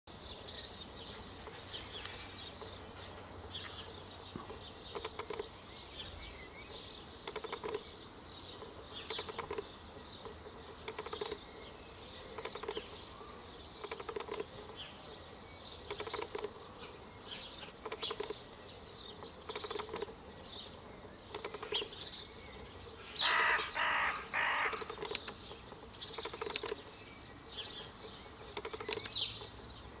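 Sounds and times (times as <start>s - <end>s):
birds calling and chirping: 0.1s - 30.0s.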